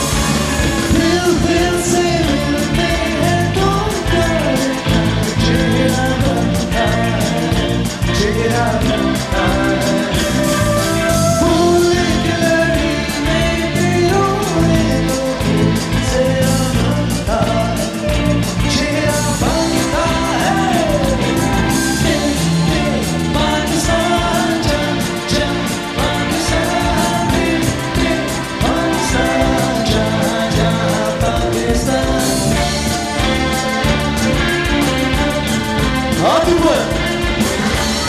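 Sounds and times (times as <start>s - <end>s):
guitar: 0.0s - 38.0s
person singing: 0.0s - 38.0s
steady beat: 0.0s - 38.0s.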